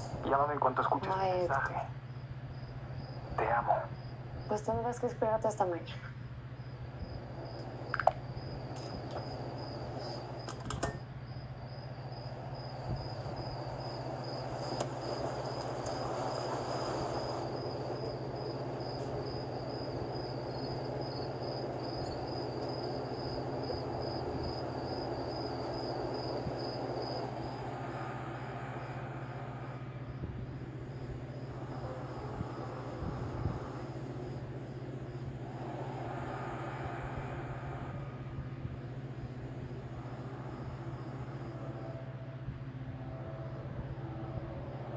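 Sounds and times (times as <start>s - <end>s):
crickets chirping: 0.0s - 44.9s
low steady hum: 0.0s - 44.9s.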